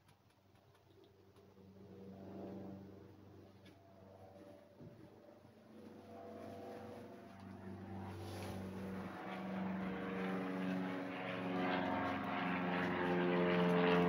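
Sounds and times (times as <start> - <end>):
steady engine drone: 0.1 - 14.0.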